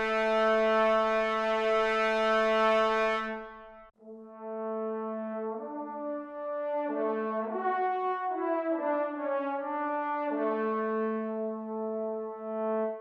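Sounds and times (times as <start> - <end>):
trombones holding sustained notes: 0.0 - 13.0.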